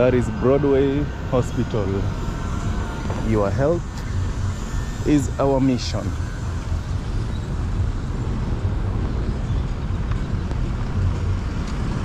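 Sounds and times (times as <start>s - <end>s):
vehicle road rumble: 0.0s - 12.0s.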